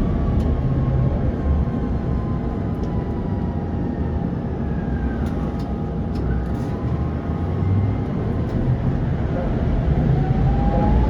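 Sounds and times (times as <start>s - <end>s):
tram wheels rumbling on track: 0.0s - 11.0s.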